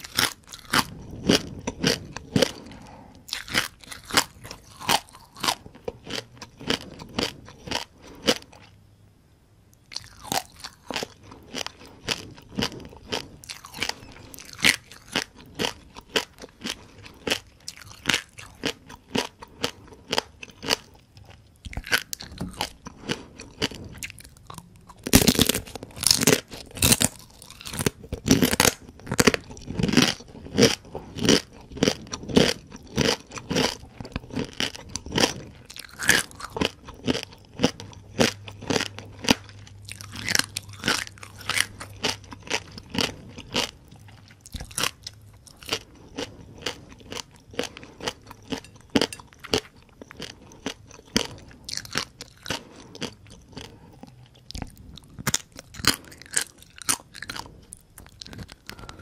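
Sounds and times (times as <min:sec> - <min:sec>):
crunchy chewing of fried crabs: 0:00.0 - 0:08.8, 0:09.8 - 0:59.0.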